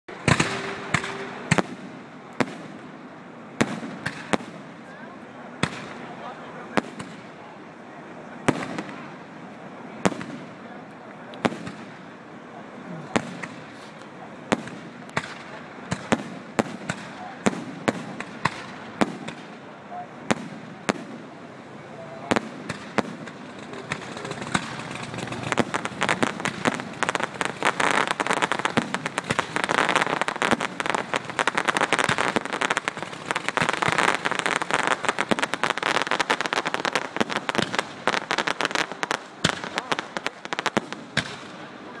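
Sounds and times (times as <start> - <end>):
fireworks bangs and crackling: 0.1 - 42.0.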